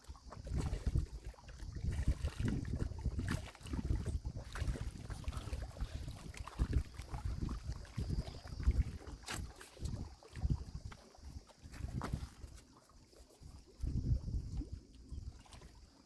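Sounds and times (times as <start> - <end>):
wind buffeting microphone: 0.1 - 12.6, 13.5 - 15.8.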